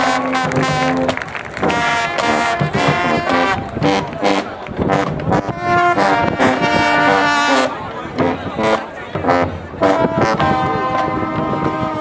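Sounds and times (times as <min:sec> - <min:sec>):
marching band brass playing: 0:00.0 - 0:12.0.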